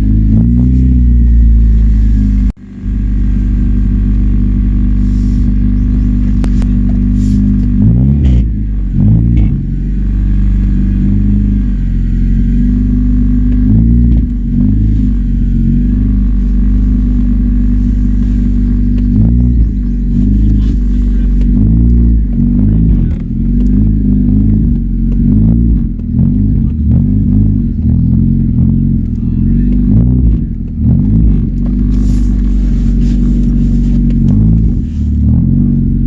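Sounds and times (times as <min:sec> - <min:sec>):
loud car engine idling and revving: 0:00.0 - 0:36.0.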